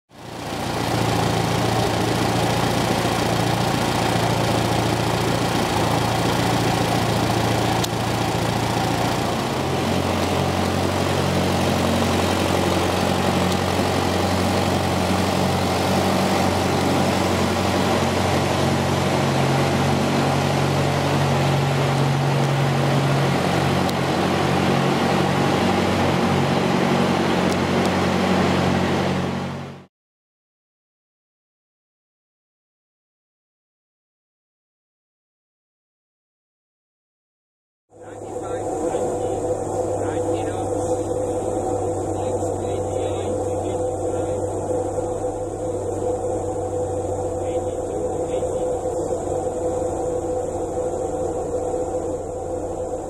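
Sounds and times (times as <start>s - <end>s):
tractor engine running: 0.1s - 29.8s, 38.0s - 53.0s.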